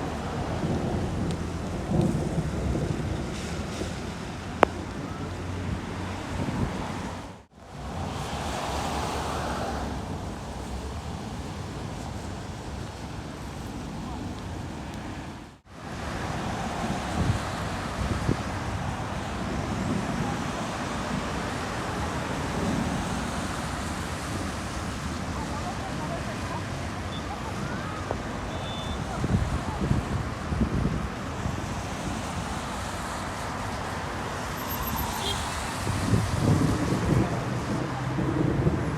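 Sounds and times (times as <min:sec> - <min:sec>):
passing traffic: 0:00.0 - 0:38.9
sea surf: 0:00.0 - 0:38.9
wind on microphone: 0:00.0 - 0:38.9.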